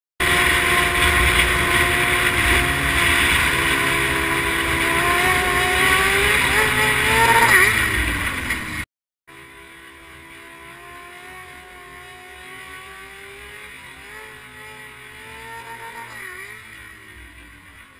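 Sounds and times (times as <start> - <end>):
motorcycle engine revving: 0.2 - 17.9.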